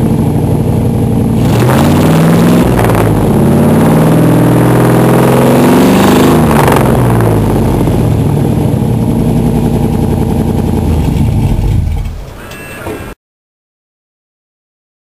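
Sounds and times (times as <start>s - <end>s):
engine exhaust revving and idling: 0.0s - 12.3s.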